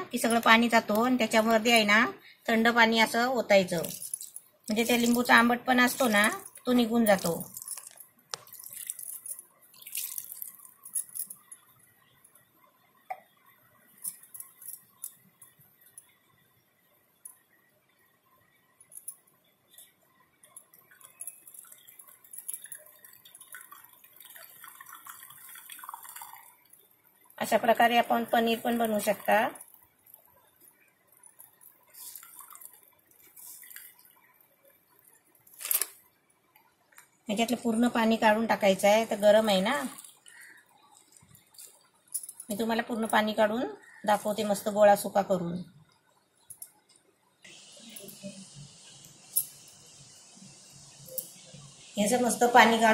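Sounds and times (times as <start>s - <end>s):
water trickling through cloth: 3.1s - 52.9s.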